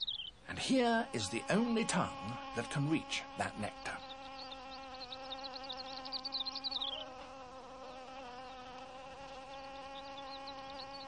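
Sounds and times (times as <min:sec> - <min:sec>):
hoverfly wings buzzing: 0:00.5 - 0:11.0.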